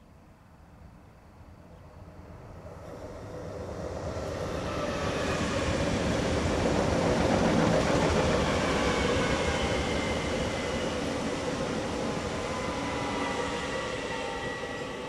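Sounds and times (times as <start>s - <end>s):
electric trains passing at speed: 0.4s - 15.0s.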